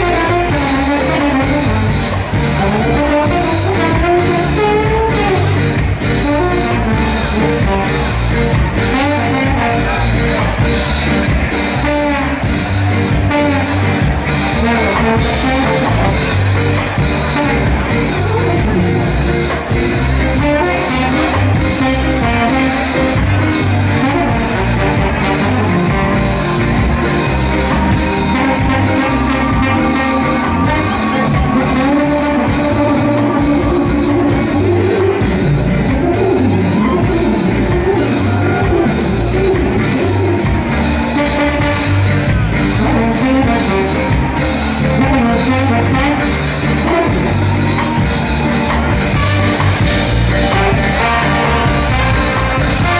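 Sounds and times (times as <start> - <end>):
horn section melody: 0.0 - 52.9
live ska band playing: 0.0 - 52.9.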